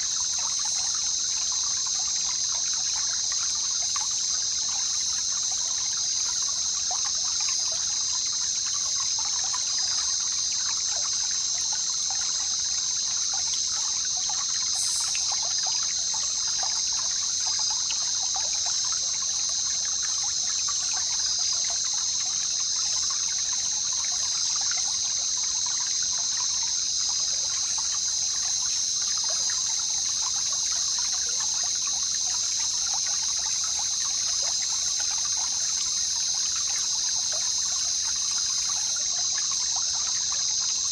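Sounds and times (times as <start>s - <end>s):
water trickling and babbling: 0.0s - 40.9s.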